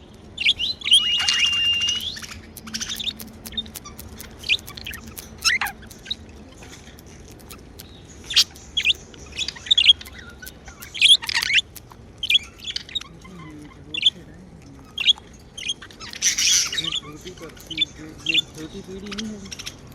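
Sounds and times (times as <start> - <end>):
budgerigars chirping: 0.4 - 6.2, 7.0 - 14.3, 14.9 - 19.9.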